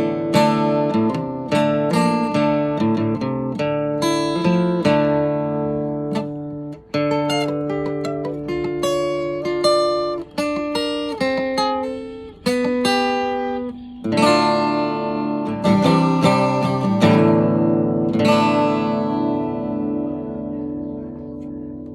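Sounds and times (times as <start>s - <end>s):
acoustic guitar: 0.0s - 21.9s.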